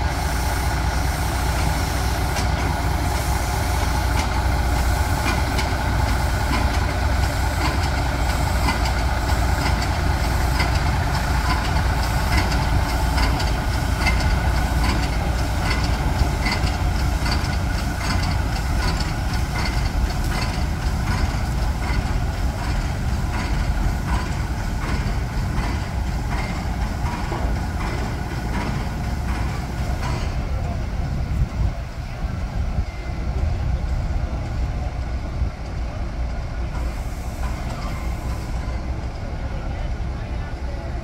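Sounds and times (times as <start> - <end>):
diesel locomotive idling: 0.0 - 41.0.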